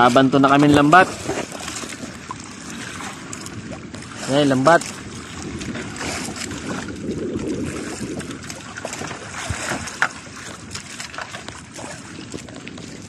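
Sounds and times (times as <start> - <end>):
water washing against boat hull: 0.0 - 13.0
wind buffeting microphone: 0.0 - 13.0.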